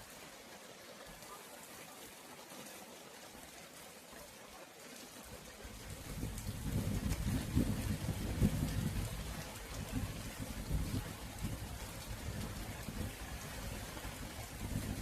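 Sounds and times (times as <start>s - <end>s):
steady rain: 0.0s - 15.0s
trickling water: 0.0s - 15.0s.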